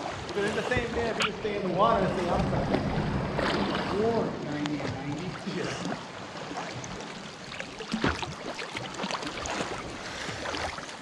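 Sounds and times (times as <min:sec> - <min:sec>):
sea water lapping and splashing: 0:00.0 - 0:11.0.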